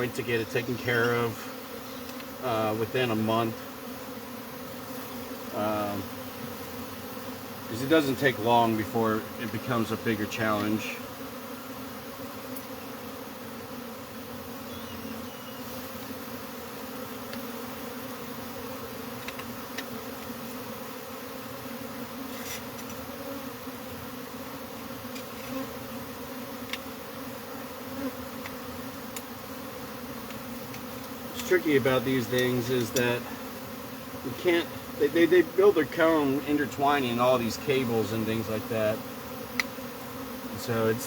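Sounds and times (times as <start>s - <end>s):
honeybees buzzing: 0.0s - 41.0s.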